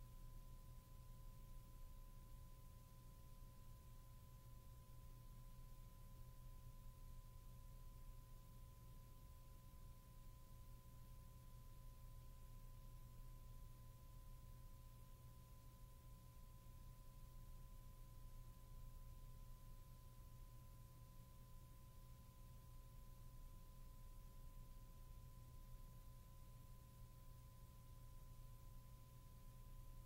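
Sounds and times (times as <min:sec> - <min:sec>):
faint low hum and hiss: 0:00.0 - 0:30.0
faint steady tones: 0:00.0 - 0:30.0.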